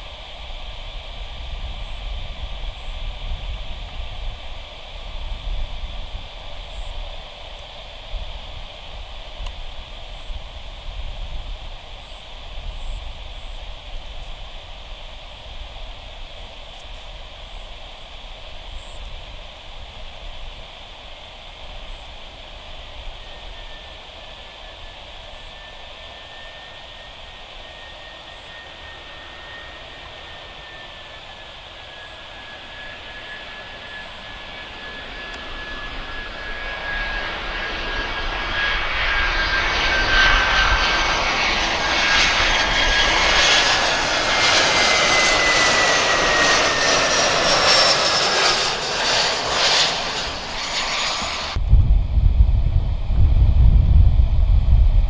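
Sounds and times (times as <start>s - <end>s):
jet airliner engine whine: 0.0s - 55.0s
jet rumble: 0.0s - 55.0s.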